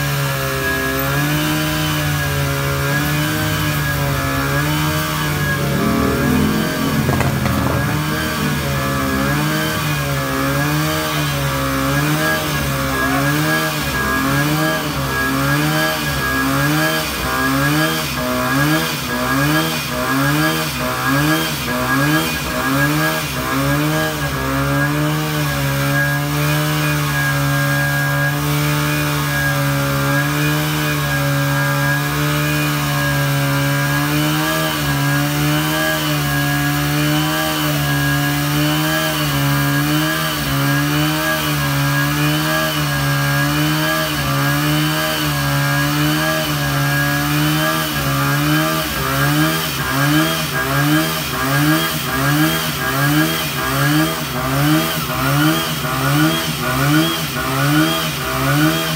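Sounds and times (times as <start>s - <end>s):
small gasoline engine running: 0.0s - 58.9s.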